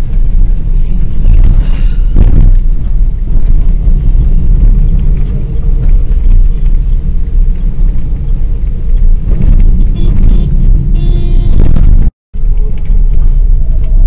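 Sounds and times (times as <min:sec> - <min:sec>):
car driving on wet road: 0:00.0 - 0:14.0.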